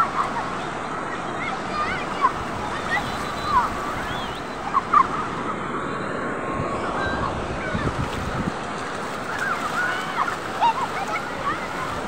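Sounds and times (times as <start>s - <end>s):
distant people shouting and squealing: 0.0s - 8.0s, 9.2s - 12.0s
surf washing onto sandy beach: 0.0s - 12.0s.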